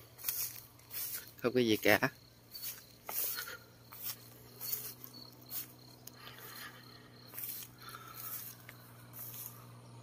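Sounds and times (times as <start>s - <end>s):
footsteps crunching through straw: 0.0s - 9.7s.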